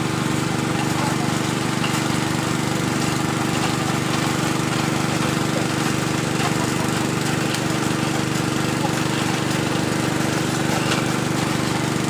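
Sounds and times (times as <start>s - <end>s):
drilling machine motor humming: 0.0s - 12.0s.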